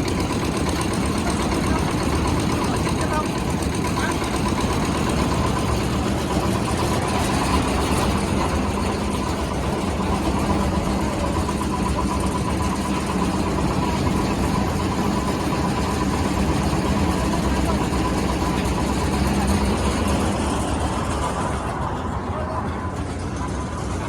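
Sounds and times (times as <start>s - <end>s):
drilling rig engine drone: 0.0s - 24.0s.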